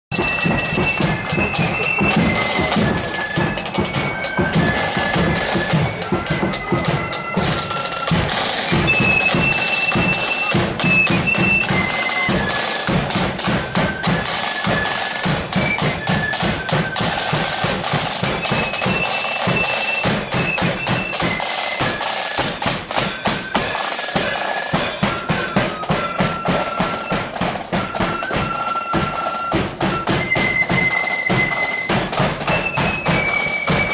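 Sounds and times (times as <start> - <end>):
flutes playing high tune: 0.1 - 33.9
side drums: 0.1 - 33.9.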